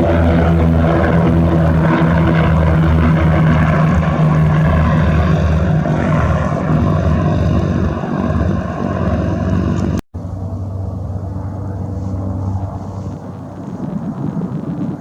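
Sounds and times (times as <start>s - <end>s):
propeller airplane engine droning: 0.0s - 15.0s.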